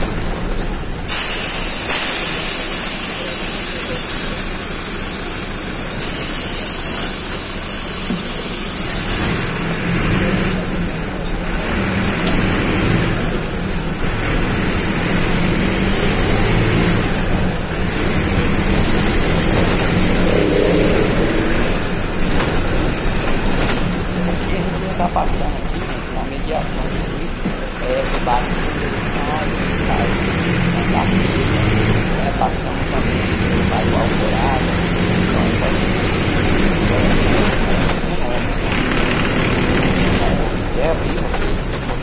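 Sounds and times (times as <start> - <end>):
bus diesel engine: 0.0 - 42.0
road and cabin noise: 0.0 - 42.0.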